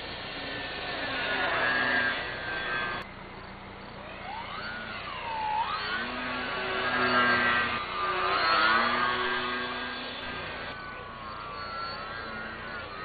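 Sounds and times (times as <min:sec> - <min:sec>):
model airplane motor whining: 0:00.0 - 0:03.1, 0:03.7 - 0:13.0.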